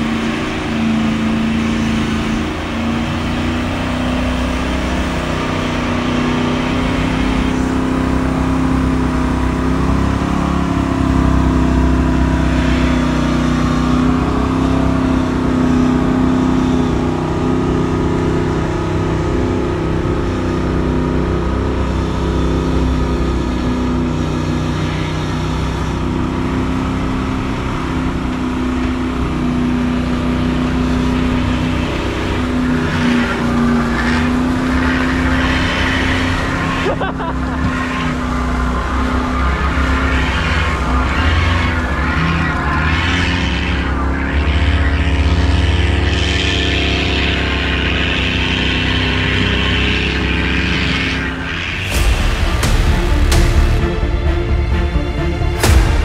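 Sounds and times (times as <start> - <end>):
engine running at steady revs: 0.0 - 56.0.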